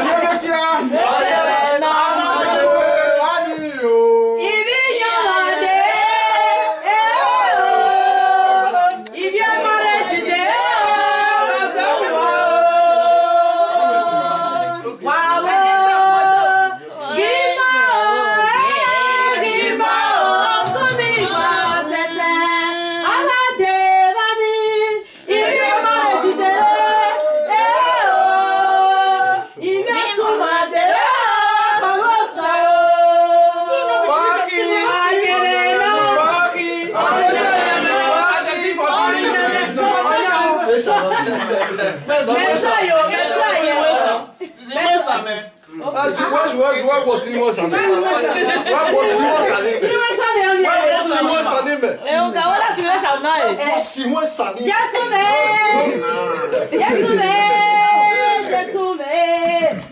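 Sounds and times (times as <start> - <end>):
voices singing: 0.0 - 44.6, 45.5 - 59.9.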